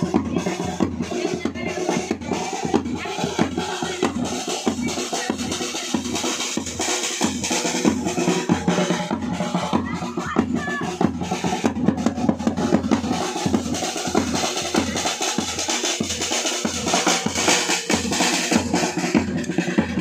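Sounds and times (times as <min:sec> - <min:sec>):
large drum beaten: 0:00.0 - 0:20.0
side drum played with sticks: 0:00.0 - 0:20.0.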